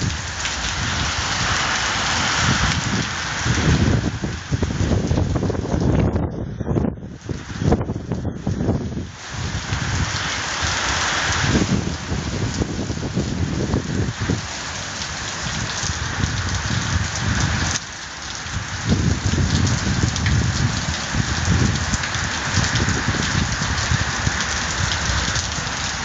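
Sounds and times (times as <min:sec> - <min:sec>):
low thunder rumbling: 0:00.0 - 0:14.5, 0:18.6 - 0:26.0
rain falling: 0:00.0 - 0:26.0.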